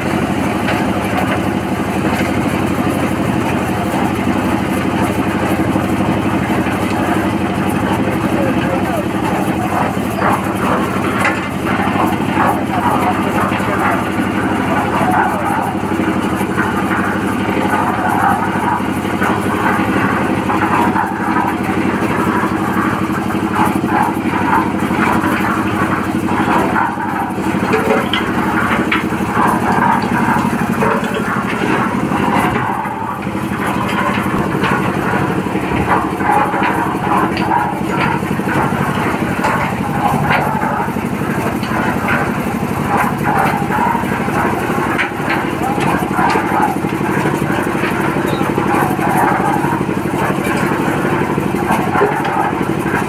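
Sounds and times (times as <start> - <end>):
concrete mixer engine drone: 0.0 - 53.0
mixer rattling: 0.0 - 53.0.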